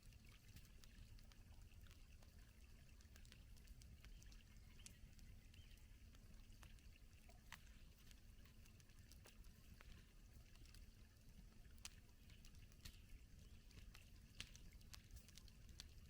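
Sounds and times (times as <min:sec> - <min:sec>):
low steady fire rumble: 0:00.0 - 0:16.0
campfire crackling and popping: 0:00.2 - 0:16.0.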